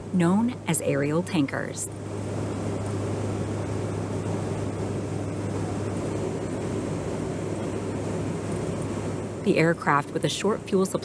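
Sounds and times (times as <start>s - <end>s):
jet aircraft in flight: 0.0s - 11.0s.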